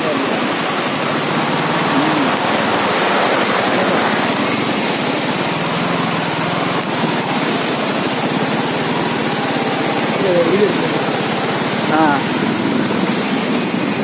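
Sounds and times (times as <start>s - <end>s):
faint motorcycle engine: 0.0s - 14.0s.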